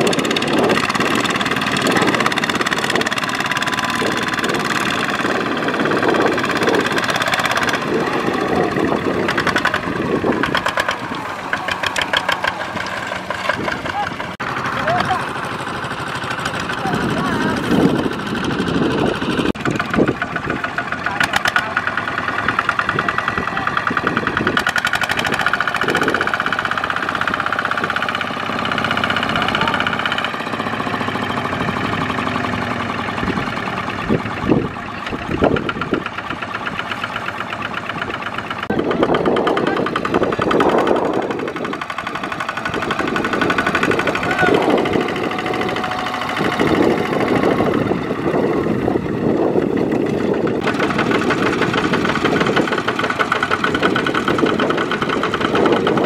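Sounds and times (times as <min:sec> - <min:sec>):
diesel tractor engine knocking: 0:00.0 - 0:56.0.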